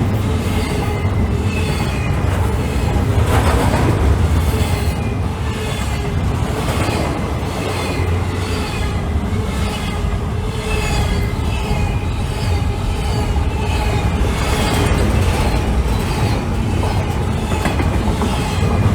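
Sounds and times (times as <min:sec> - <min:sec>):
train wheels rumbling on rail: 0:00.0 - 0:18.9.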